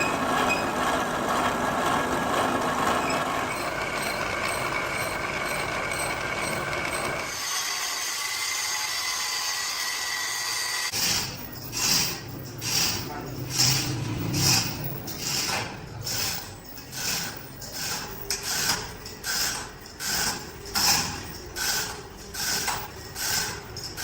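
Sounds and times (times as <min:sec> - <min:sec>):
workshop machinery running: 0:00.0 - 0:24.0.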